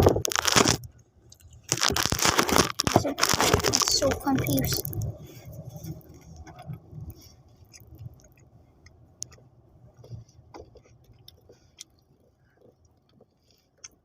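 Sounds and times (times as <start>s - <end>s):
person chewing bread: 0.0s - 14.0s.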